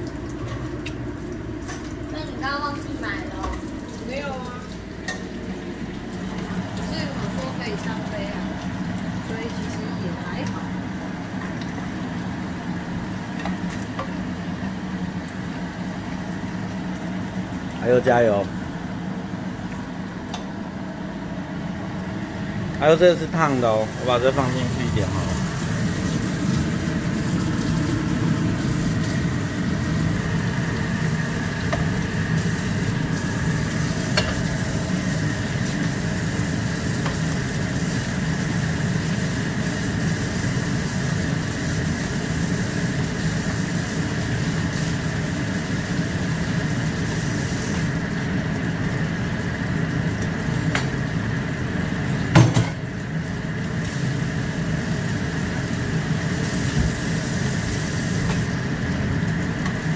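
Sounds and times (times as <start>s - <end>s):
greens sizzling in a frying pan: 0.0s - 59.9s.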